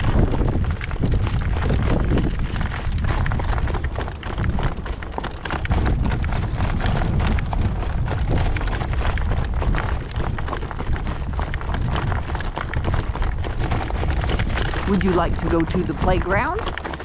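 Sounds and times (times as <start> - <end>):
horse hooves clip-clopping: 0.0 - 17.0
wind buffeting microphone: 0.0 - 17.0.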